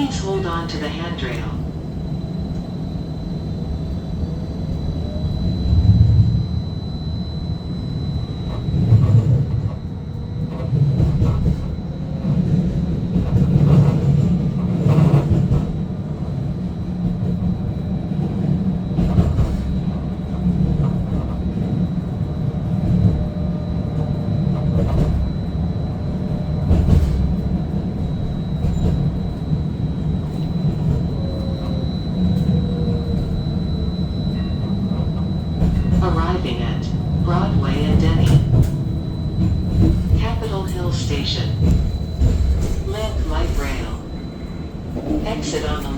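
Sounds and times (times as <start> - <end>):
streetcar rumble: 0.0 - 45.9.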